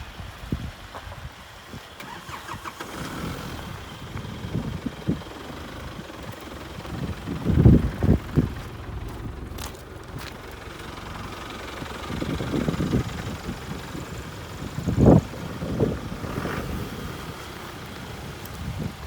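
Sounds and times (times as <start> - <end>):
low engine burst: 2.0 - 18.3
vehicle engine running unevenly: 3.0 - 19.0.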